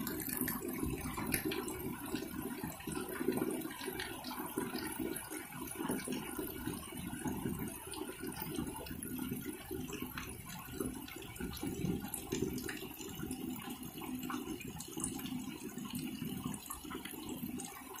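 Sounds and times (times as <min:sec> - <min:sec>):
water drips ticking: 0:00.0 - 0:18.0.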